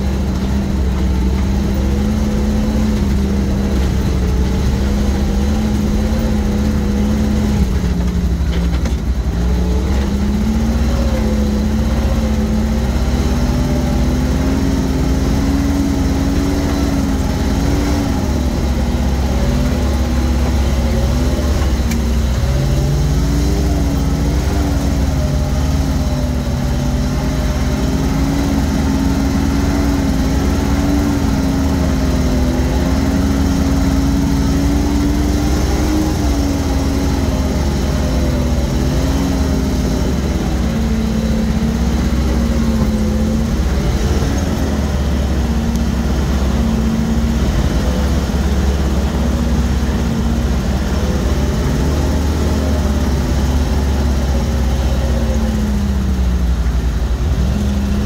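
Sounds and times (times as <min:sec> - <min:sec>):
truck engine from inside cab: 0:00.0 - 0:58.0.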